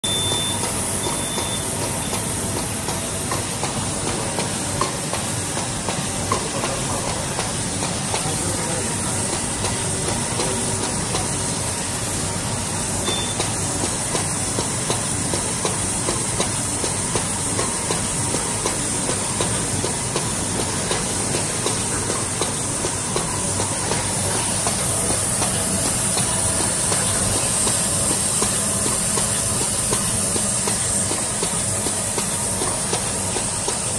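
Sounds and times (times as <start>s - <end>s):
machine hiss and rattle: 0.0s - 33.9s.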